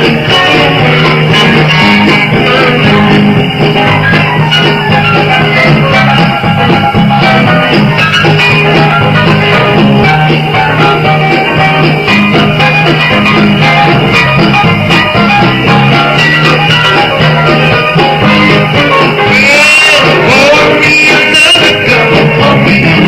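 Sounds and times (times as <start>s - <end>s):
bass line and beat: 0.0s - 23.0s
electric guitar: 0.0s - 23.0s.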